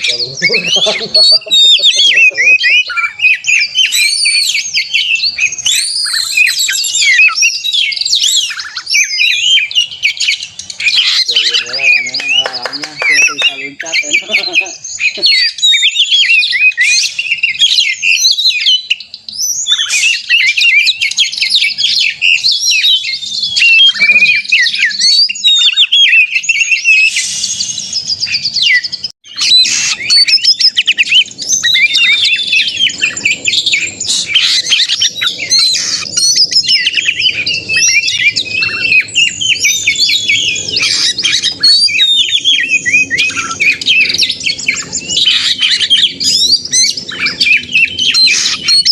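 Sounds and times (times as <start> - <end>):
songbird singing loudly: 0.0 - 48.9.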